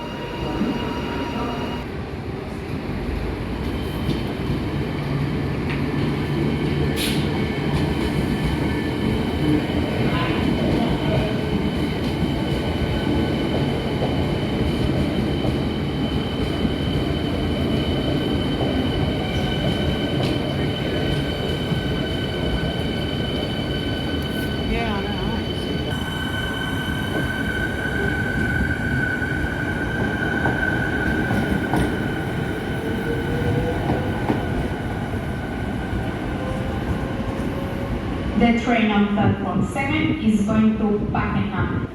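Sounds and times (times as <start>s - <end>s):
train wheels rumbling: 2.9s - 41.9s.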